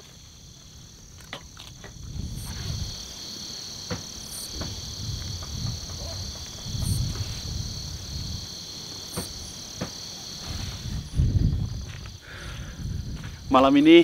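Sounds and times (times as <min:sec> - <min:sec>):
crickets trilling: 0:00.0 - 0:14.0
frogs croaking: 0:00.0 - 0:14.0.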